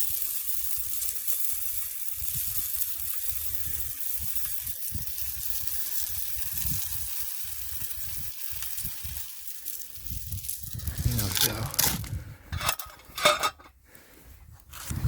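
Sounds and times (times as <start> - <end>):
bird seed pouring through funnel: 0.0 - 13.1.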